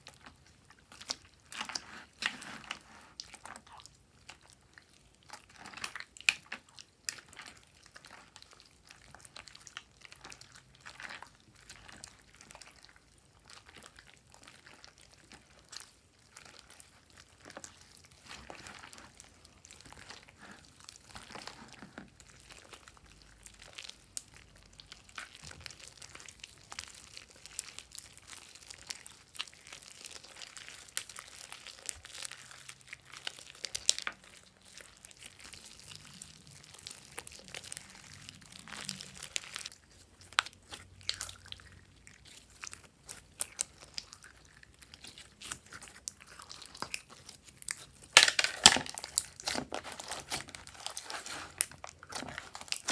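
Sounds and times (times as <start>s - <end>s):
slime crackling and crunching: 0.0s - 52.9s.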